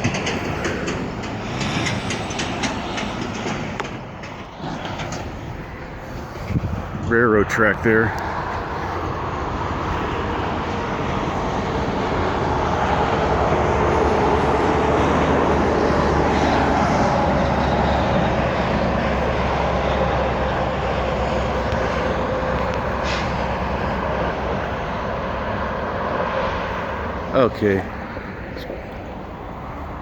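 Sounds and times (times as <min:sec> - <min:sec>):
passing vehicle engine drone: 0:00.0 - 0:30.0.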